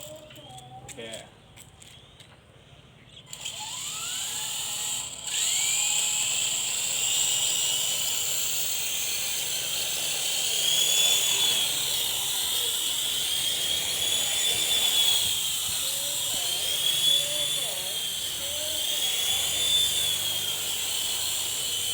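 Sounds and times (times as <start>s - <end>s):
toy helicopter rotor whine: 0.0s - 2.3s, 3.2s - 21.9s.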